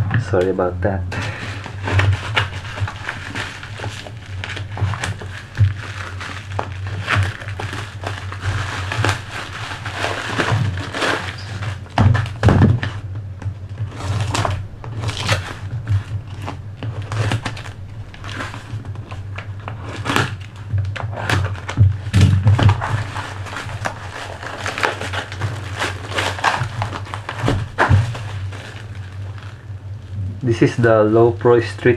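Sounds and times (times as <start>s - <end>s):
knocks and thumps: 0.0s - 30.4s
packaging crinkling and rustling: 0.0s - 31.9s
steady low hum: 0.0s - 31.9s.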